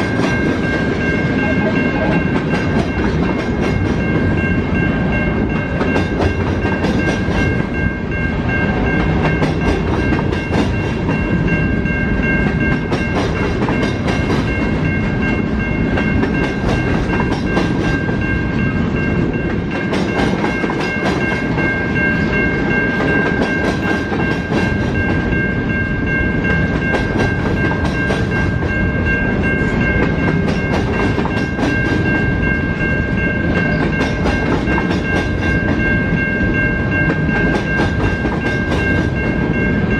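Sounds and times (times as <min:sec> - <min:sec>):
train wheels clacking: 0:00.0 - 0:39.9.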